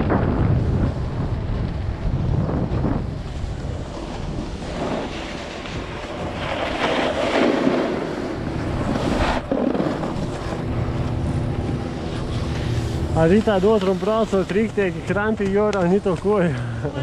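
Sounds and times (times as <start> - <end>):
snowboard scraping over snow: 0.0 - 17.0
wind buffeting microphone: 0.0 - 17.0.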